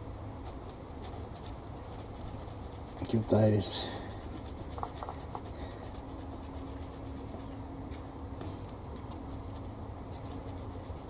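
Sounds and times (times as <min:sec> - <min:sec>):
sanding plastic by hand: 0:00.5 - 0:08.0, 0:09.2 - 0:11.0.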